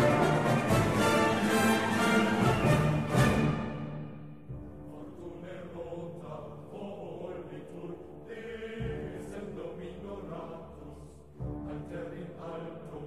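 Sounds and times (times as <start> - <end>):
choir-like chanting voices: 0.0 - 13.0.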